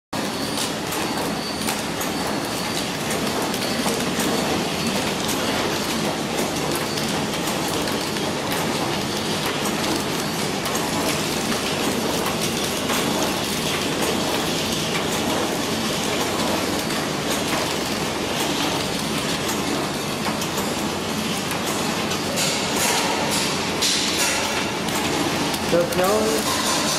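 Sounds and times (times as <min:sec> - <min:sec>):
wrapping machine clattering: 0:00.2 - 0:26.9.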